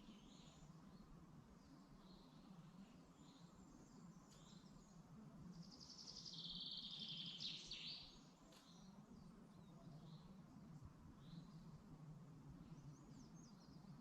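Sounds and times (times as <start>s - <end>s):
birds chirping faintly: 0.0s - 14.0s
songbird trill: 0.0s - 14.0s.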